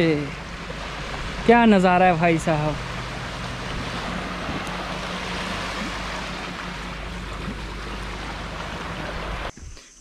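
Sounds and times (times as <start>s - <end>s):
sea water washing on shore: 0.0s - 9.5s.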